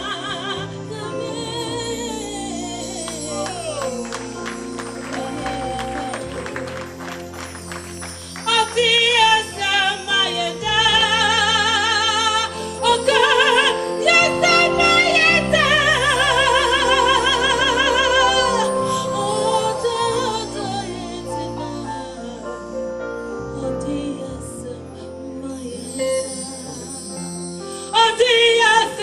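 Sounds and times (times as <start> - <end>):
gospel band accompaniment: 0.0 - 29.0.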